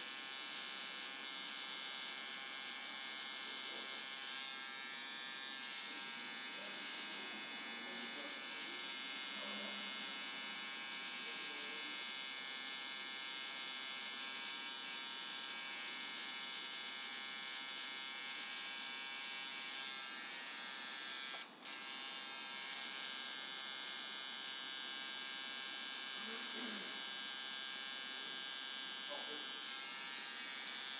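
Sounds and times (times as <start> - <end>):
tattoo machine buzzing: 0.0 - 30.9.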